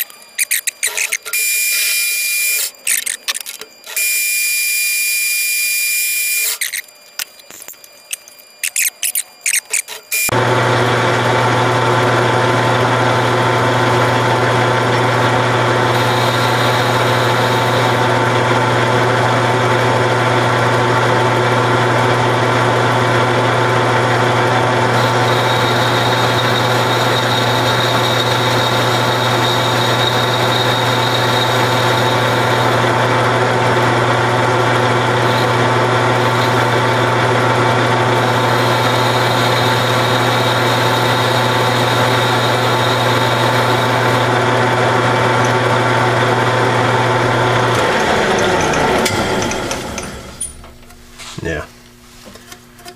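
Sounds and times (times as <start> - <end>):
metal lathe humming: 0.0 - 50.9.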